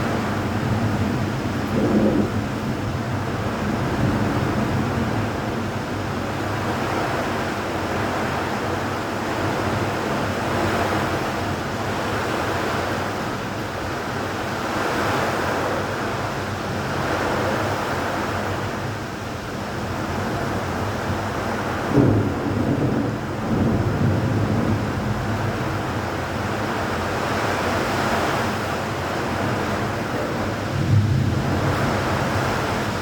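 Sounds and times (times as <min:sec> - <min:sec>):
rain: 0:00.0 - 0:33.0
wind: 0:00.0 - 0:33.0.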